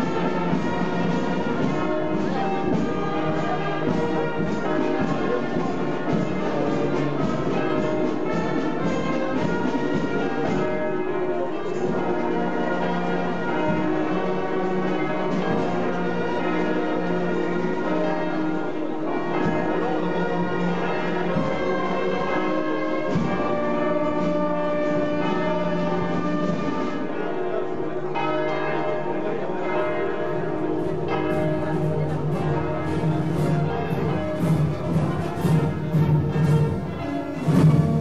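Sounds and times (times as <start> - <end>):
church bells ringing: 0.0 - 38.0.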